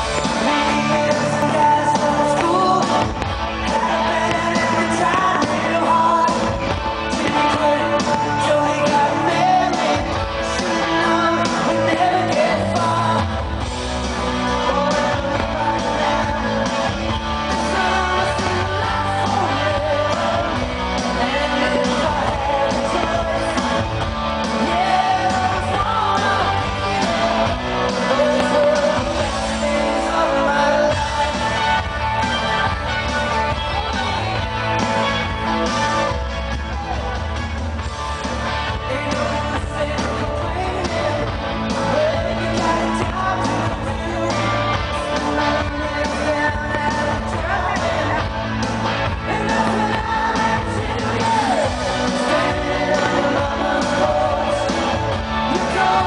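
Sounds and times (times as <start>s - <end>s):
person singing: 0.0s - 36.9s, 38.2s - 56.0s
rock band playing: 0.0s - 56.0s.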